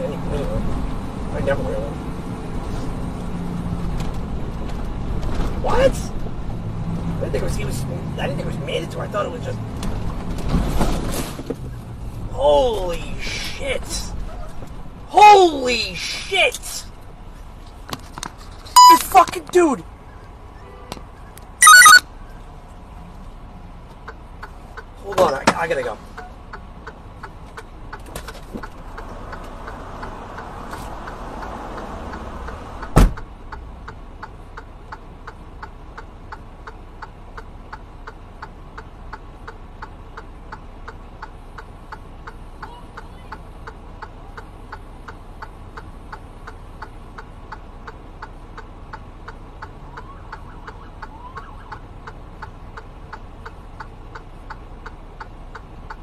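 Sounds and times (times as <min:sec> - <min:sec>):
traffic noise: 0:00.0 - 0:56.0.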